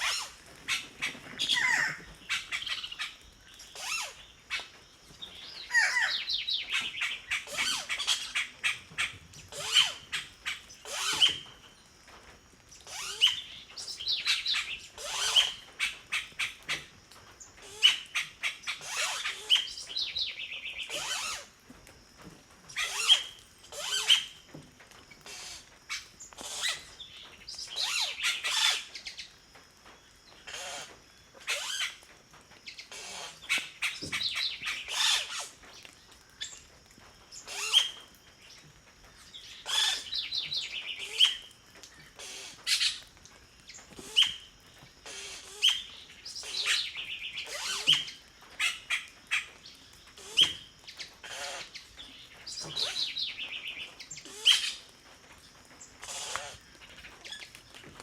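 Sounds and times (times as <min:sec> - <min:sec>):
birds calling: 0:00.0 - 0:11.8, 0:12.7 - 0:21.5, 0:22.7 - 0:36.7, 0:37.3 - 0:58.0.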